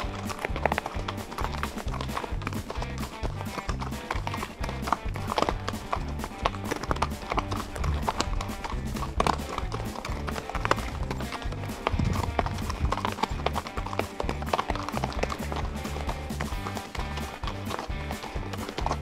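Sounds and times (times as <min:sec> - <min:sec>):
background music with bass line: 0:00.0 - 0:19.0
hooves clopping on gravel: 0:00.0 - 0:19.0.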